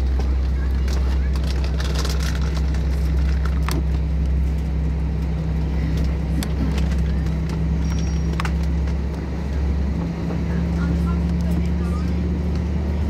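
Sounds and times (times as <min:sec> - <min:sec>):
airliner low drone: 0:00.0 - 0:13.0.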